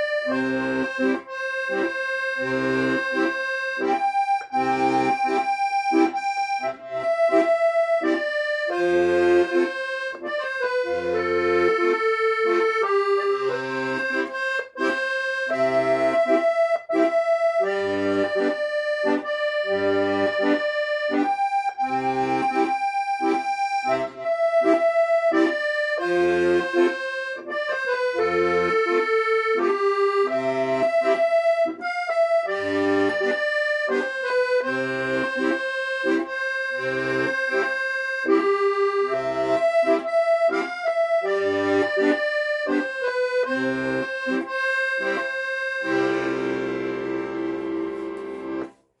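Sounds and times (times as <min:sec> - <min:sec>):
accordion playing a melody: 0:00.0 - 0:49.0.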